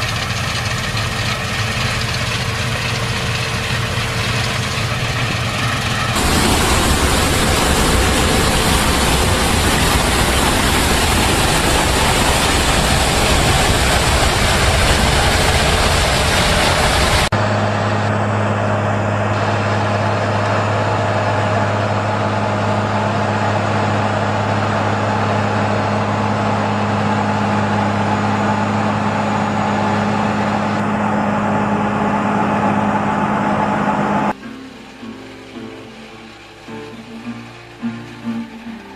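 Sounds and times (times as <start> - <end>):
heavy machine engines running: 0.0 - 38.9.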